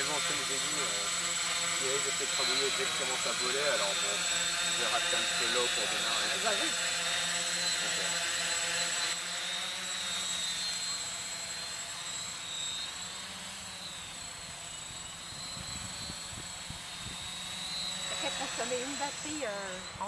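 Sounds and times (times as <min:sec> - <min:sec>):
quadcopter propellers buzzing: 0:00.0 - 0:20.0.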